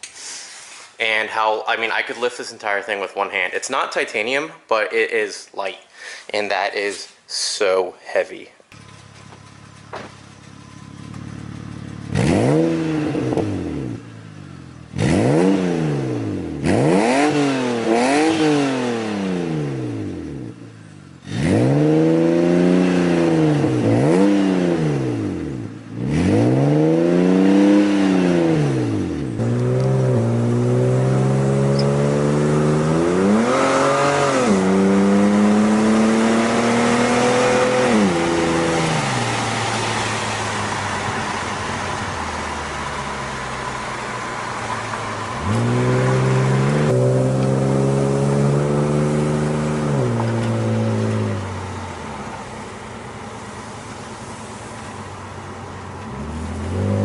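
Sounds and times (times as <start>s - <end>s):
car engine revving: 8.7s - 57.0s.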